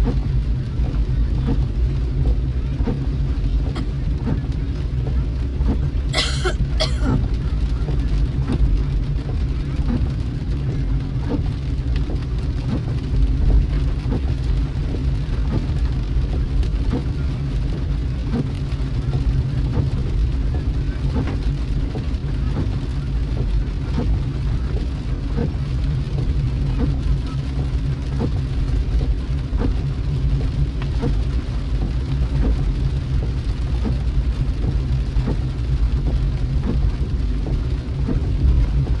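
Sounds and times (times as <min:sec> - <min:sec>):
car engine and tyres rumbling: 0:00.0 - 0:39.0
raindrops tapping on car: 0:00.0 - 0:39.0.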